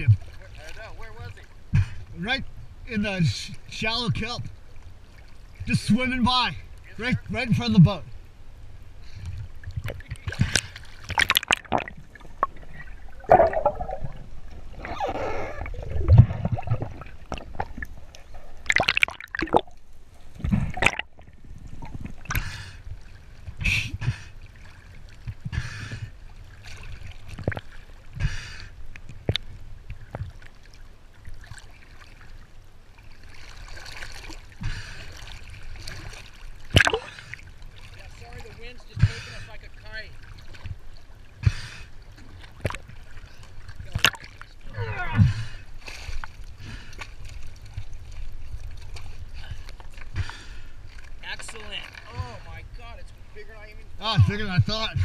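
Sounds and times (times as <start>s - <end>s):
sea water splashing: 0.0s - 2.3s, 3.0s - 55.0s.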